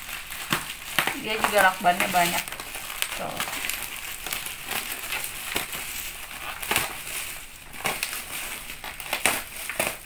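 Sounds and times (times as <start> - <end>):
plastic crinkling: 0.0 - 10.0
scissors cutting plastic packaging: 0.0 - 10.0.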